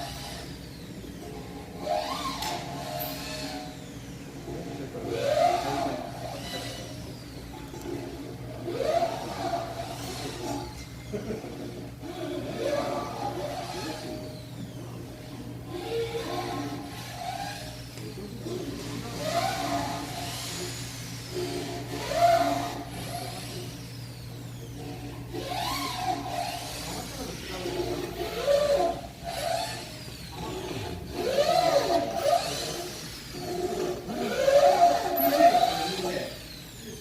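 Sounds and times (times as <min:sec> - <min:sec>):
machinery whines: 0:00.0 - 0:37.0
workshop machinery hum: 0:00.0 - 0:37.0.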